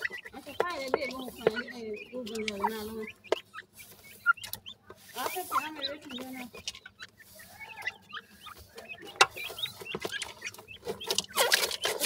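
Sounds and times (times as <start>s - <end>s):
birds chirping and clucking: 0.0s - 12.0s
scratching in dry soil: 0.0s - 12.0s.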